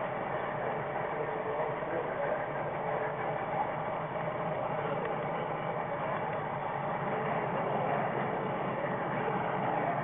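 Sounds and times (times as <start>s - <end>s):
model train rumbling on track: 0.0s - 10.0s.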